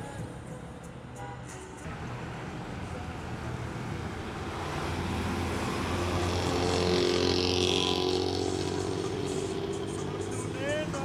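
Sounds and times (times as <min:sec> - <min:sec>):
bus passing by: 0:00.0 - 0:11.0
motorcycle passing: 0:01.9 - 0:11.0.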